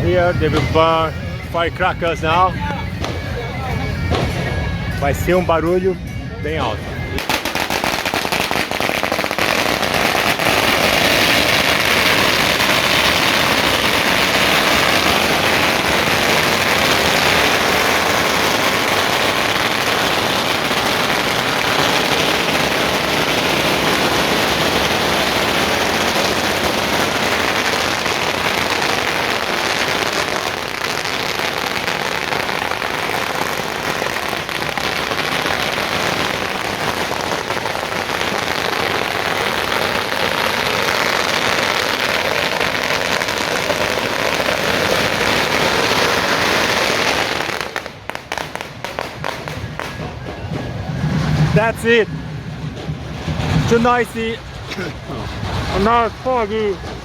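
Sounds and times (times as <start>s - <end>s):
firecrackers crackling: 0.0s - 57.0s.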